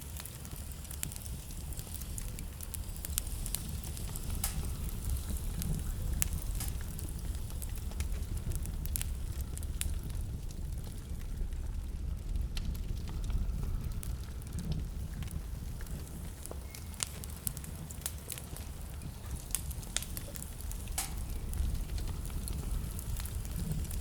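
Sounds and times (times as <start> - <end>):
low rumble of fire: 0.0 - 24.0
wood fire crackling and popping: 0.0 - 24.0.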